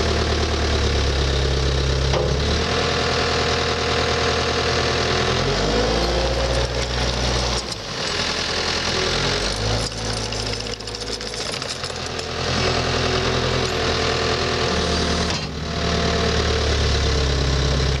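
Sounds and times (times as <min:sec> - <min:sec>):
diesel engine clattering: 0:00.0 - 0:15.8.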